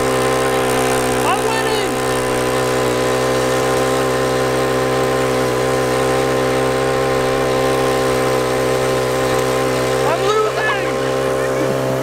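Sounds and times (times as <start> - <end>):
small gas engine buzzing: 0.0 - 12.0.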